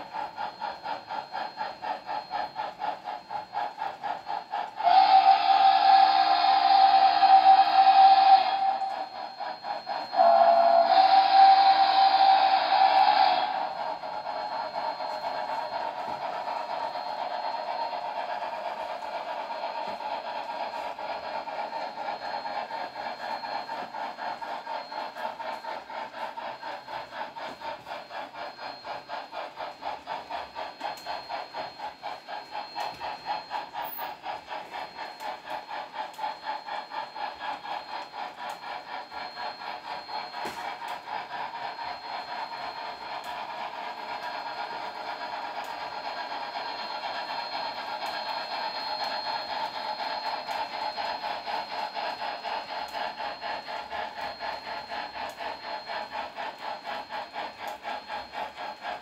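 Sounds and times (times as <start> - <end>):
model trains whirring and clicking: 0.0 - 59.0.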